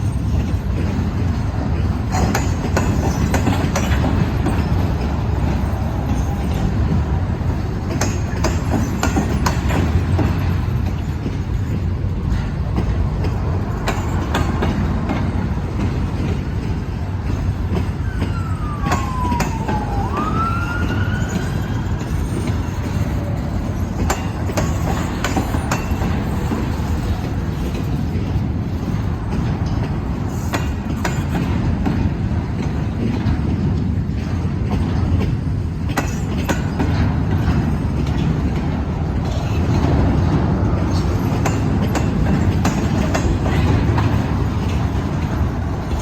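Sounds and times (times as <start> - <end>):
train rumbling past: 0.0 - 46.0
wheels clicking over rail joints: 0.0 - 46.0.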